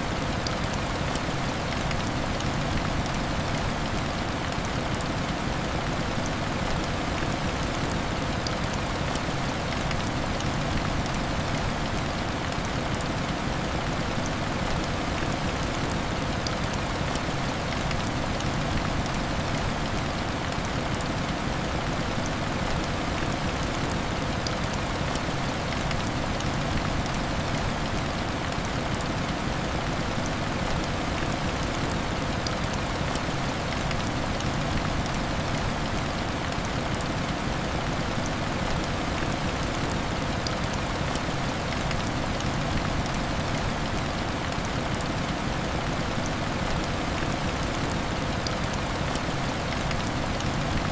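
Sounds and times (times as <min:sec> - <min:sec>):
heavy rain on window glass: 0:00.0 - 0:50.9.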